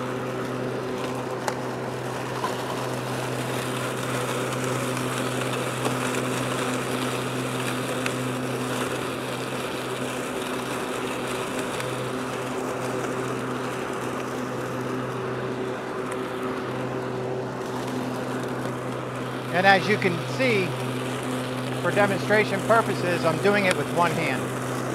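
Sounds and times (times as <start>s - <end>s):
electric lawn mower running: 0.0s - 24.9s.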